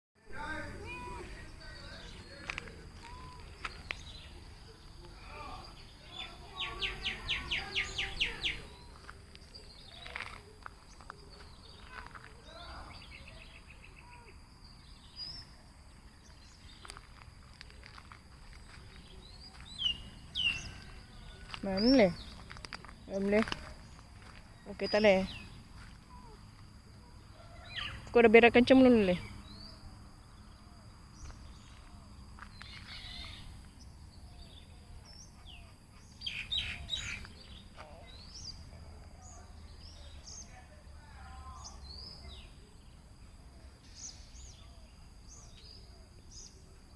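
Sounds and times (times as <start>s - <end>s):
faint insect drone: 0.3s - 46.9s
small birds chirping: 0.4s - 46.9s.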